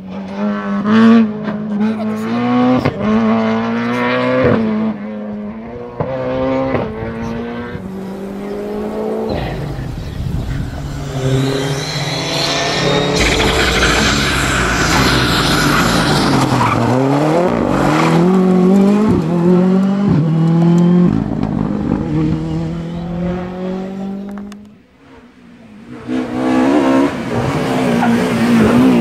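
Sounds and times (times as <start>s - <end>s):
rally car accelerating with gear changes: 0.0s - 29.0s
rally car approaching at speed: 0.0s - 29.0s.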